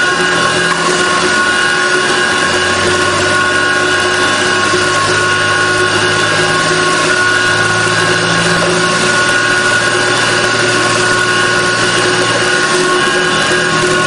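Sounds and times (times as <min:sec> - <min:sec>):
mechanical drone of a motor: 0:00.0 - 0:14.0
whining tones: 0:00.0 - 0:14.0.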